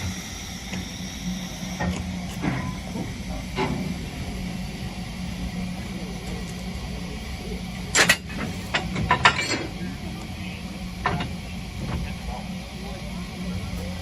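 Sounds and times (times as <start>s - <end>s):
low steady hum: 0.0s - 14.0s
steam locomotive hissing: 0.0s - 14.0s.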